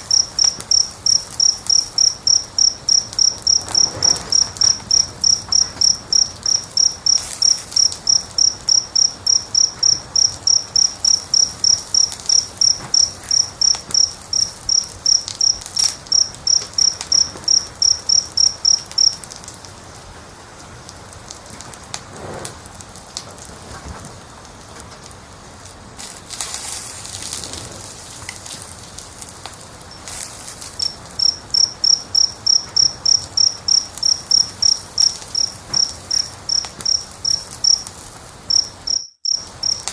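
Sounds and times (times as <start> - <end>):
cricket chirping: 0.0 - 19.7, 26.0 - 39.9
fire crackling and popping: 0.0 - 39.9.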